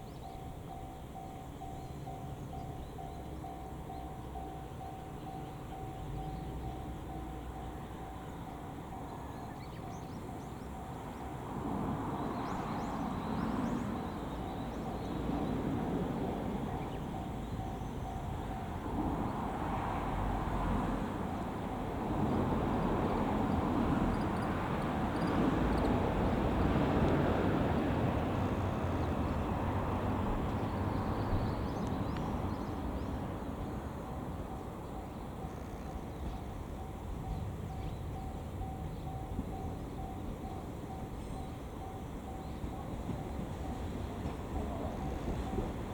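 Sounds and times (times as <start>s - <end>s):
train pulling into station: 0.0s - 45.9s.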